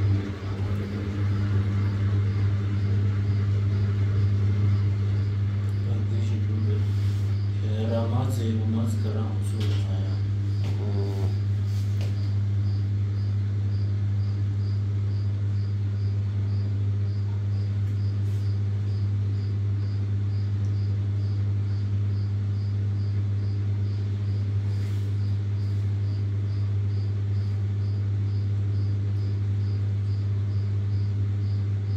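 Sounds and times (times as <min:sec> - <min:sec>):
washing machine humming: 0:00.0 - 0:31.9.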